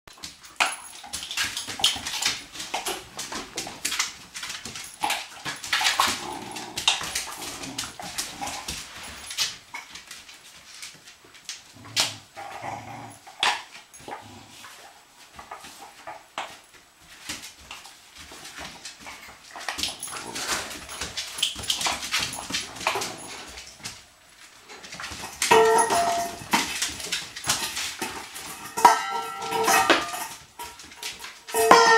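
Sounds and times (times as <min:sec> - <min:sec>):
paws clicking and scuffling on tile: 0:00.1 - 0:31.9.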